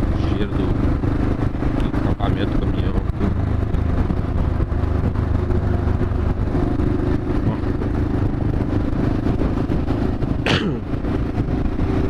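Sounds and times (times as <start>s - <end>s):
motorcycle engine cruising: 0.0s - 12.0s
rush of road noise: 0.0s - 12.0s.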